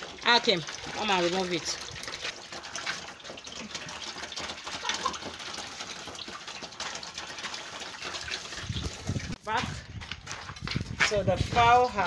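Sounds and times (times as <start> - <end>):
water gushing in plastic drum: 0.0 - 12.0.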